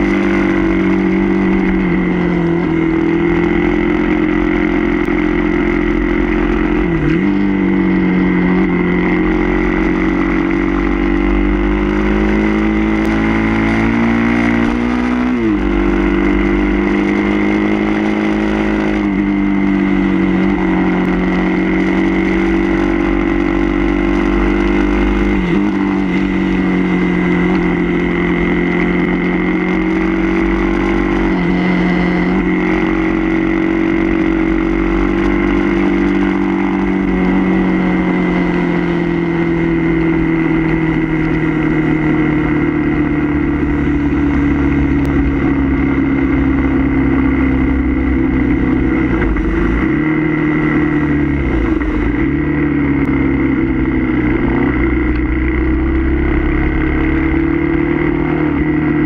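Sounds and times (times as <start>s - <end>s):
wind rumble on microphone: 0.0s - 4.3s, 5.8s - 59.0s.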